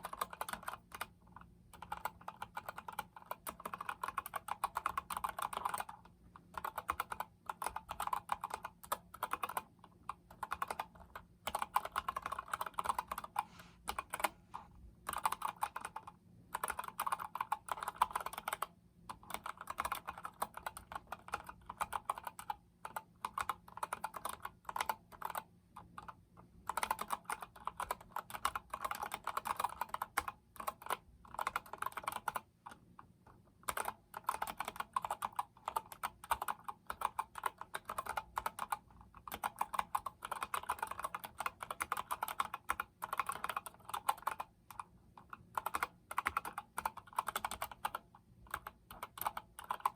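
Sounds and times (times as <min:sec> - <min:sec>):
mechanical keyboard typing: 0:00.0 - 0:14.4, 0:15.0 - 0:49.9.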